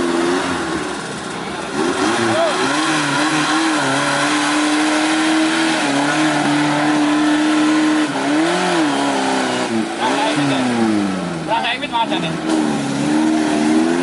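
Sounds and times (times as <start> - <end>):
jeep engine revving: 0.0 - 14.0.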